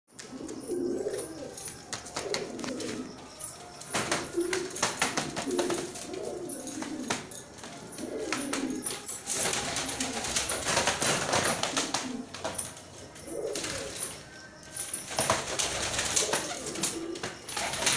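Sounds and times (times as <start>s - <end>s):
pigeons cooing: 0.2s - 17.9s.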